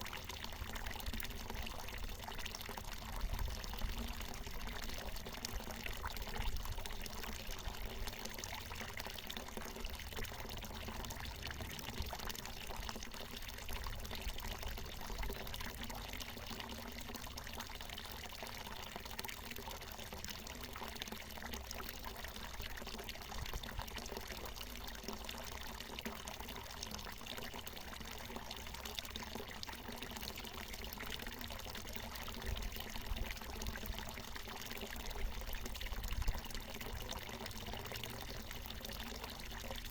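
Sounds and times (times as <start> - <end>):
spring water pouring and splashing: 0.0 - 39.9.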